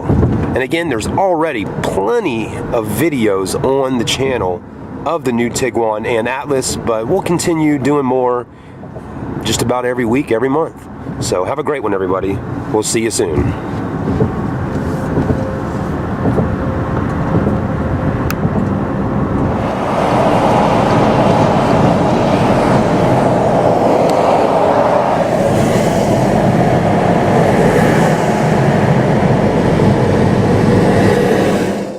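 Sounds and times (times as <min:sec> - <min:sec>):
car cabin road and wind noise: 0:00.0 - 0:31.9.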